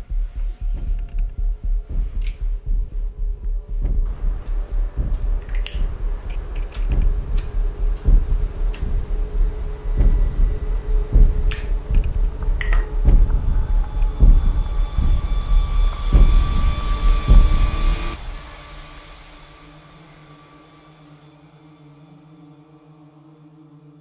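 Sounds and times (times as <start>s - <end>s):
loud low rumble: 0.0s - 20.7s.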